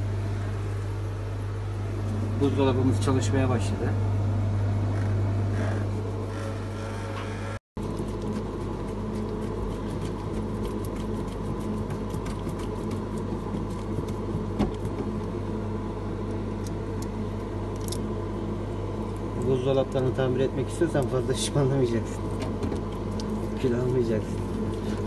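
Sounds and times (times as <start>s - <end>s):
refrigerator humming: 0.0s - 25.0s.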